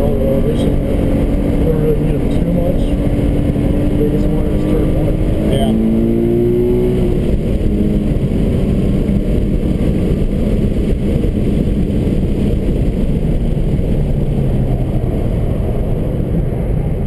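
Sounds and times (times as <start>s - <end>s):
car engine running: 0.0s - 17.0s
tyre and road rumble: 0.0s - 17.0s.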